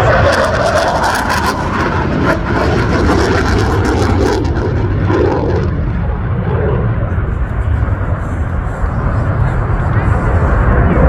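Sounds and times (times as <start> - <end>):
jet roar: 0.0 - 11.0.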